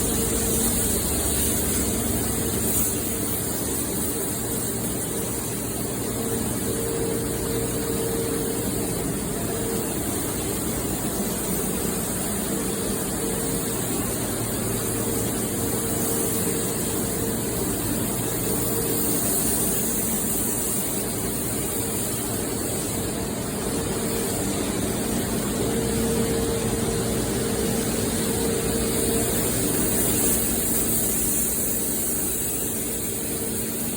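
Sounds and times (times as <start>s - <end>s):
paint sprayer hissing: 0.0s - 7.8s, 8.4s - 25.7s, 26.6s - 33.9s
compressor humming: 0.0s - 33.9s.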